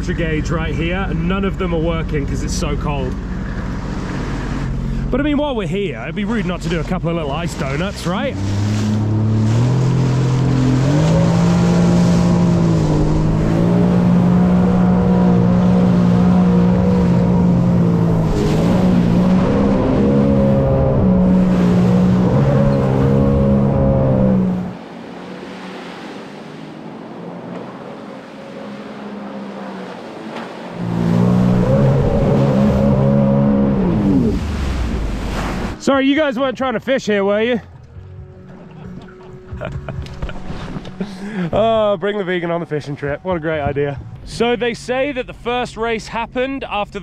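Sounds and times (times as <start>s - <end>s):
jet ski engine revving: 0.0s - 36.0s, 37.6s - 47.0s.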